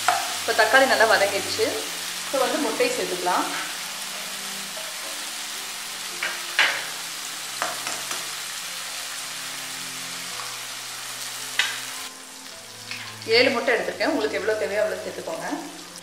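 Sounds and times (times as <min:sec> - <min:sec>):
sauce sizzling in hot oil: 0:00.0 - 0:16.0.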